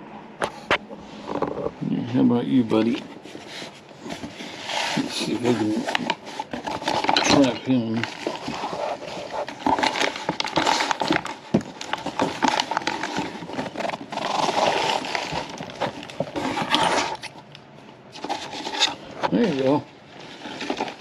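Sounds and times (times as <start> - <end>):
cardboard box scraping and rustling: 2.7 - 17.4, 18.1 - 21.0.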